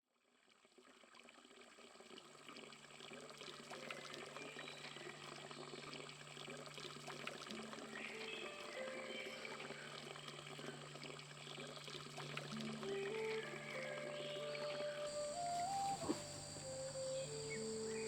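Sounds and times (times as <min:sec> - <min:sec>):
trickling water: 0:00.1 - 0:18.0
low steady hum: 0:03.1 - 0:18.0.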